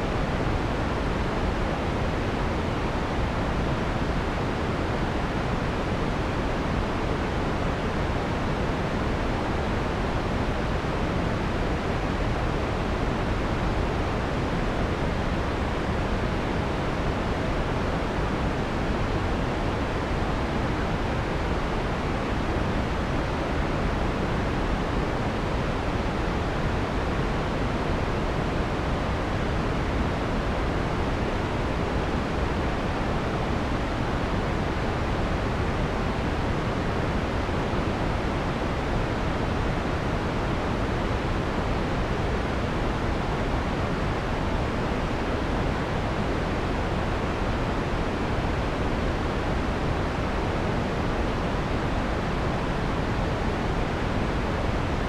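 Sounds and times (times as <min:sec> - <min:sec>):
filtered white noise hiss: 0:00.0 - 0:55.0.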